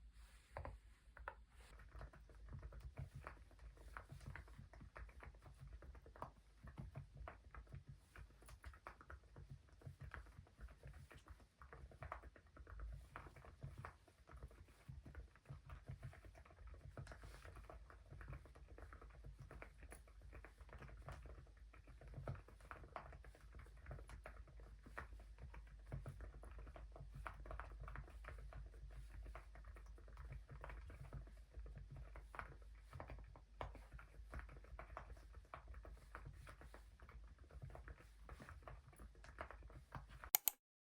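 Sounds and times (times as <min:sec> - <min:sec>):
soft muted keyboard typing: 0:00.6 - 0:40.6.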